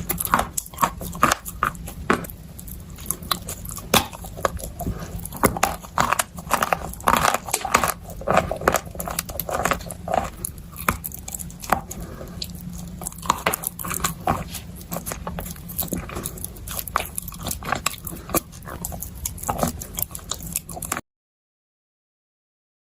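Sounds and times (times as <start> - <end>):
chewing: 0.0 - 21.0
crisp bites and crunching: 0.0 - 21.0.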